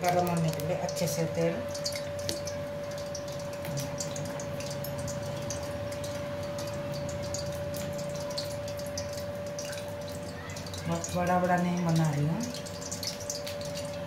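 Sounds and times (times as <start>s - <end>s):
steady hum: 0.0s - 14.0s
wet squishes of hands kneading: 0.0s - 14.0s.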